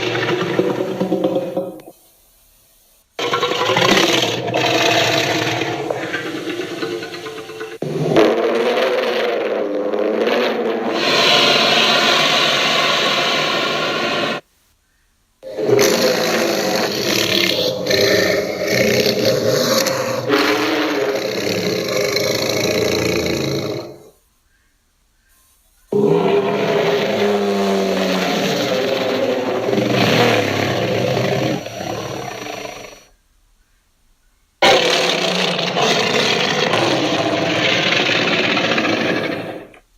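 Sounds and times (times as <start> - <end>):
dinosaur roar: 0.0 - 1.9, 3.2 - 14.4, 15.4 - 24.1, 25.9 - 33.1, 34.6 - 39.9.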